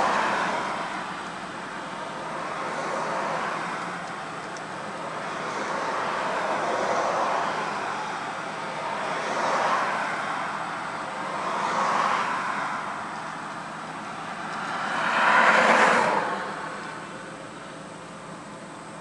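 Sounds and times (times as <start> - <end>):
cars passing by: 0.0 - 19.0.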